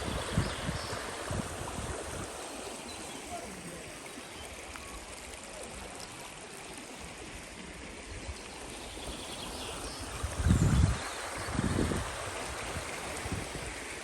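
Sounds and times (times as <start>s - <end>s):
stream water running over stones: 0.0s - 14.0s.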